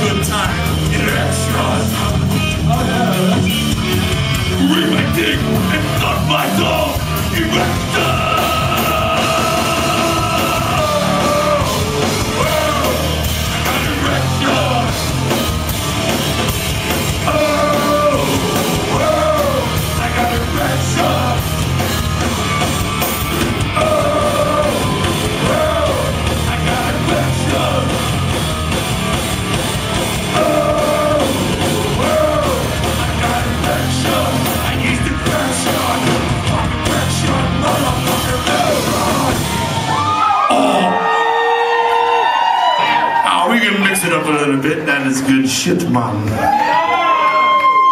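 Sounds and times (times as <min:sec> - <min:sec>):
yelled vocals: 0:00.0 - 0:43.6
loud rock song: 0:00.0 - 0:44.0.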